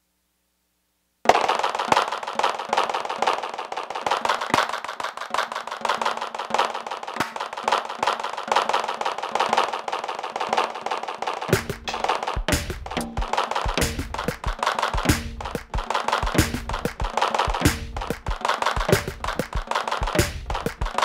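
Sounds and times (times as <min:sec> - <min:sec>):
electronic snare drum rolls: 0:01.3 - 0:21.0.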